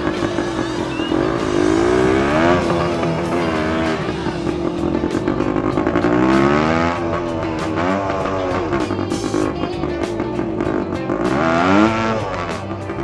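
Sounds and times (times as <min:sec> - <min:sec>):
dirt bike engine revving: 0:00.0 - 0:13.0
music with steady beat: 0:00.0 - 0:13.0.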